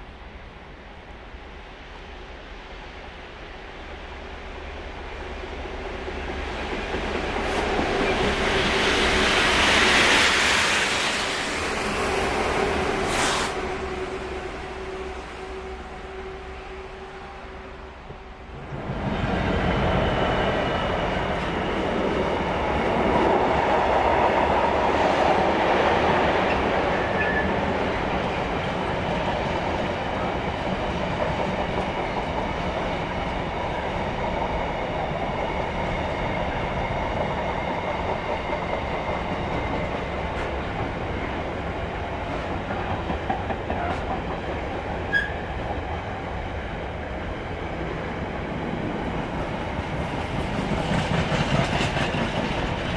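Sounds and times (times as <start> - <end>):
freight train rumbling over rails: 0.0 - 52.9.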